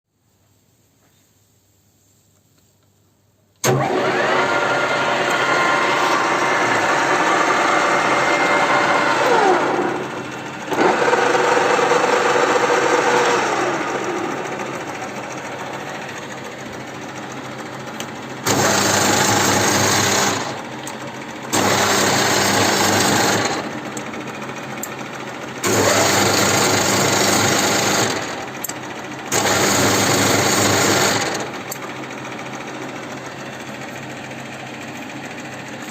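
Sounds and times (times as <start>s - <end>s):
lathe gear whine: 3.6s - 35.9s
metal lathe running: 3.6s - 35.9s.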